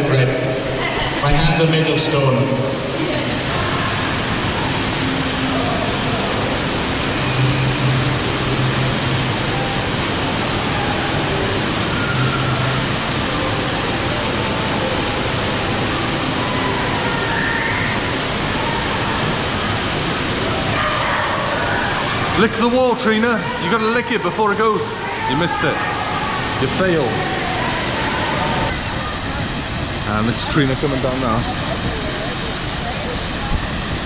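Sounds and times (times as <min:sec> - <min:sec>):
falling water rushing: 0:00.0 - 0:34.0.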